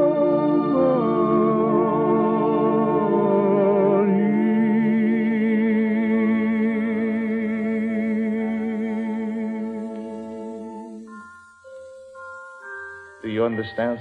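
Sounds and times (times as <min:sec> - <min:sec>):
orchestral accompaniment: 0:00.0 - 0:14.0
singer holding note with vibrato: 0:00.0 - 0:14.0.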